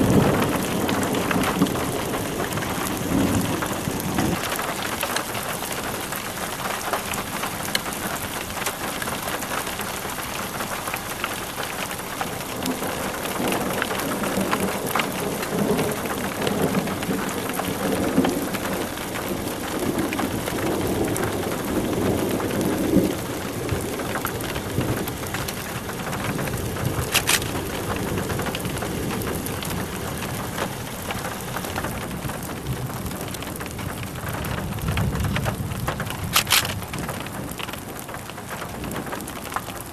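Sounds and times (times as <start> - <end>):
thunder rumbling: 0.0 - 10.1, 11.0 - 39.9
heavy rain on hard surface: 0.0 - 39.9.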